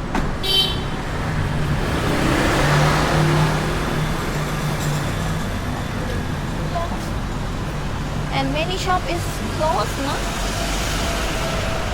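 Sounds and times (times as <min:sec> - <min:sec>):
vehicle passing by: 0:01.0 - 0:11.9.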